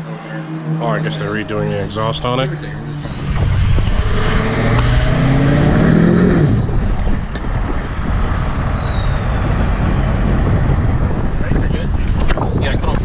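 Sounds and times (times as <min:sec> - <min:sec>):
vehicle engine revving: 0:00.0 - 0:12.3
high whine: 0:00.0 - 0:13.0.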